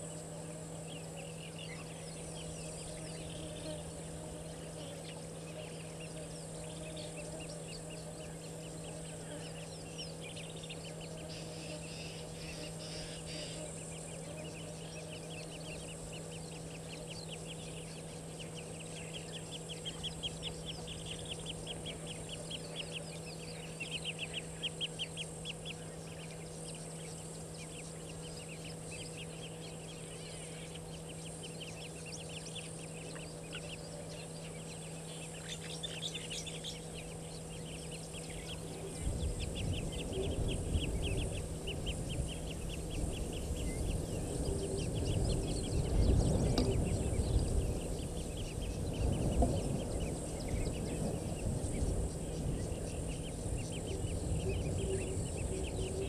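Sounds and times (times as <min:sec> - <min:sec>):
birds chirping: 0:00.0 - 0:56.0
low hum: 0:00.0 - 0:56.0.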